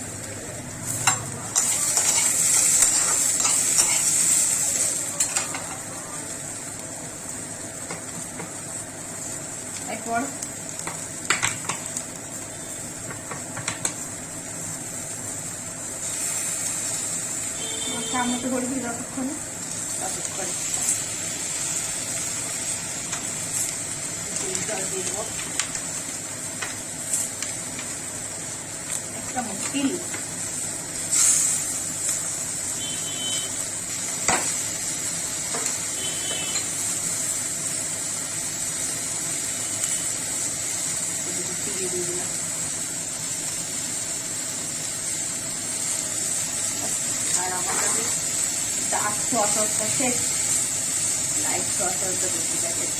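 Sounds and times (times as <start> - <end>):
vegetables sizzling in a pan: 0.0 - 52.9.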